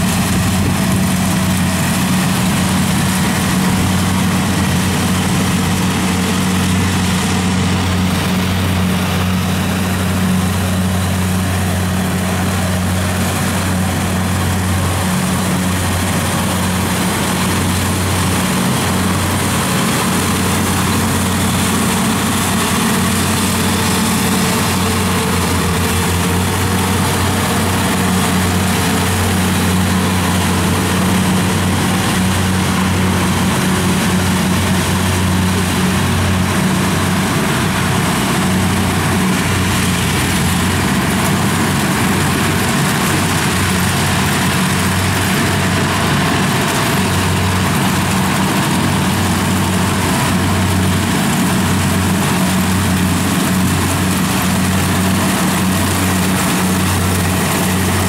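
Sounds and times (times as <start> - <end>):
diesel engine humming: 0.0 - 58.0
harvester machinery rushing: 0.0 - 58.0.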